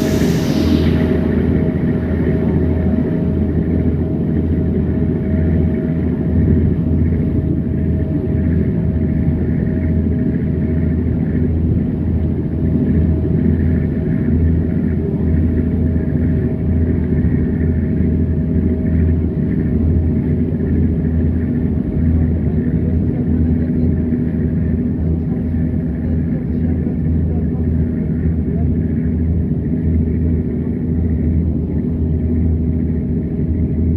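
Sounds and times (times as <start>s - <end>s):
engine droning hum: 0.0s - 33.9s.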